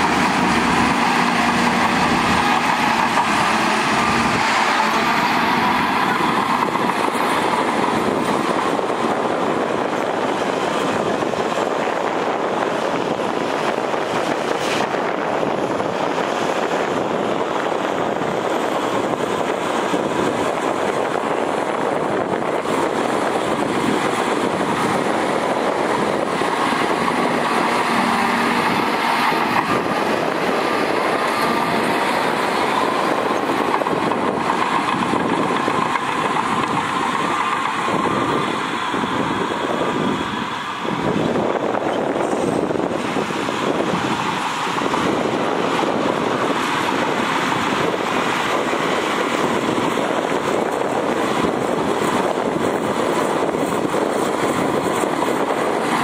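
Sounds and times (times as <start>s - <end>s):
heavy diesel machines clattering: 0.0s - 56.0s.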